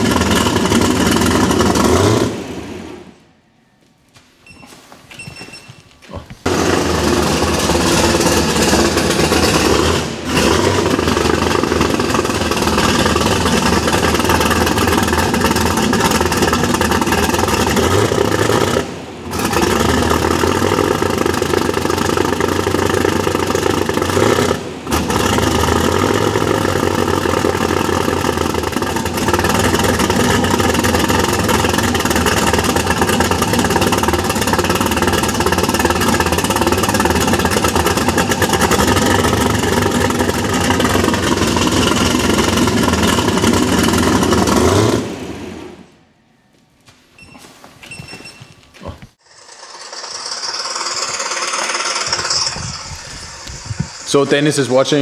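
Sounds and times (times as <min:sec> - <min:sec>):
rough running vee eight engine: 0:00.0 - 0:03.0, 0:05.6 - 0:45.7, 0:49.2 - 0:55.0.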